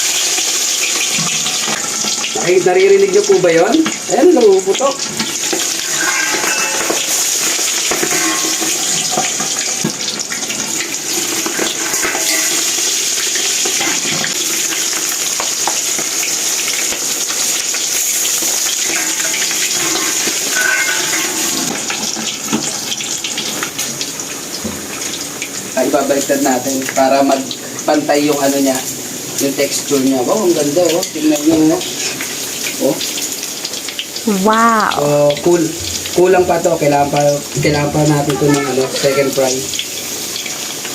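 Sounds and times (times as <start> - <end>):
meat sizzling in hot oil: 0.0 - 40.9.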